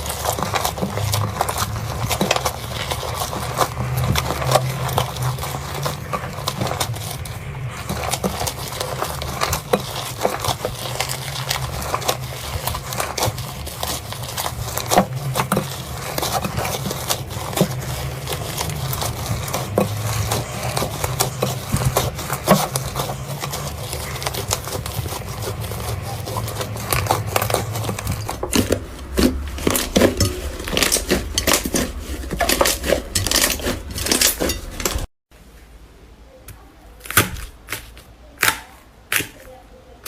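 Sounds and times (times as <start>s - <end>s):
slime crackling and popping: 0.0s - 35.1s, 37.0s - 39.6s.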